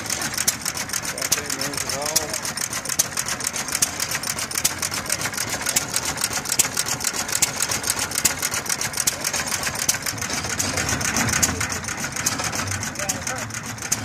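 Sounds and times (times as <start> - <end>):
stationary engine running: 0.0 - 14.0
valve gear clicking: 0.2 - 14.0.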